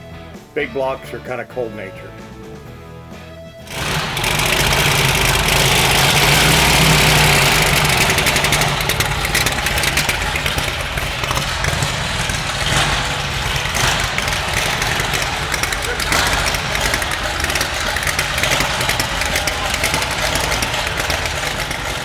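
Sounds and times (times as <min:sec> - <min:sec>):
race car engine starting and running: 0:03.6 - 0:22.0.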